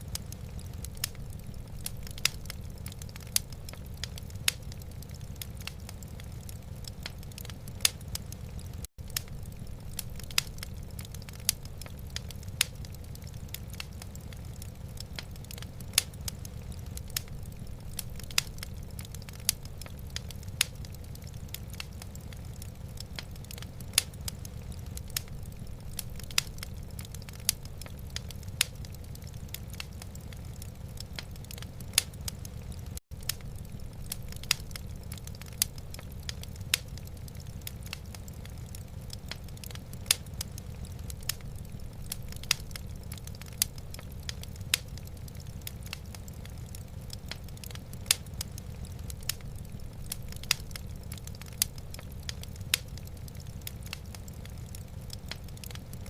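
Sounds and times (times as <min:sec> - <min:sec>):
fire crackles and pops: 0:00.0 - 0:56.0
low rumble of fire: 0:00.0 - 0:56.0.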